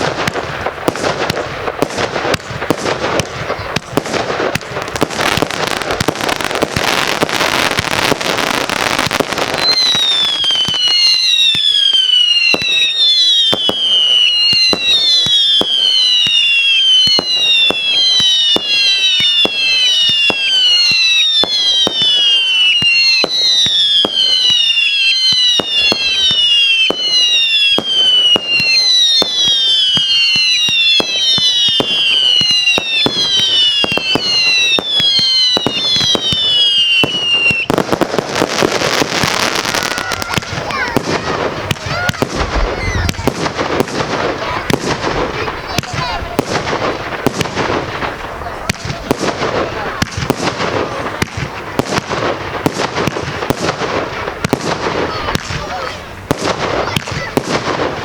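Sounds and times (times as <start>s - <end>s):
firework bangs: 0.0s - 58.0s
firework crackling: 0.0s - 58.0s
whistling firework shots: 0.0s - 58.0s.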